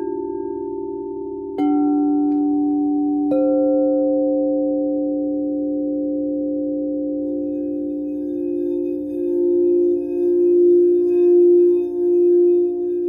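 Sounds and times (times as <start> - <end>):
singing bowl struck with mallet: 0.0 - 13.0
singing bowls ringing: 0.0 - 13.0.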